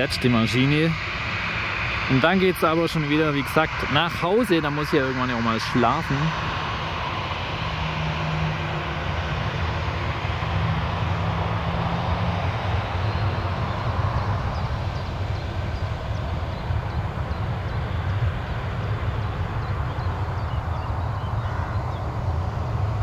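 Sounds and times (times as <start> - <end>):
jet engines rumbling: 0.0 - 23.0
low steady hum: 0.0 - 23.0.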